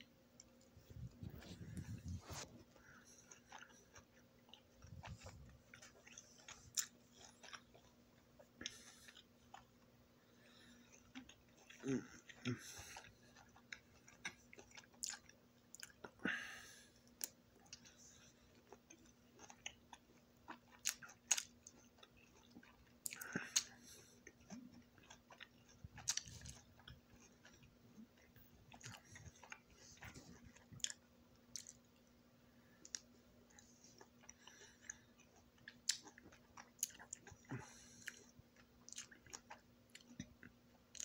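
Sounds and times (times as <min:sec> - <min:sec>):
person chewing orange slices: 0:00.4 - 0:41.0.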